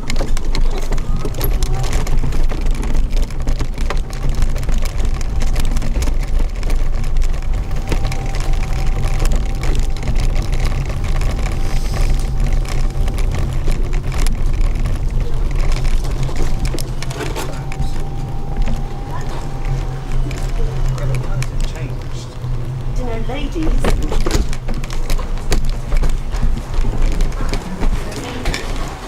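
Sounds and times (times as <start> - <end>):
mobility scooter rumble: 0.0 - 29.0
small knocks and rattles: 0.0 - 29.0.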